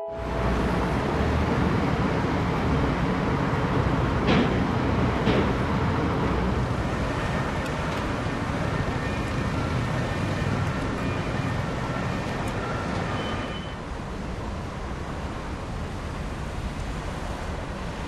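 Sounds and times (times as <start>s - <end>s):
engines and traffic rumbling: 0.0s - 18.0s.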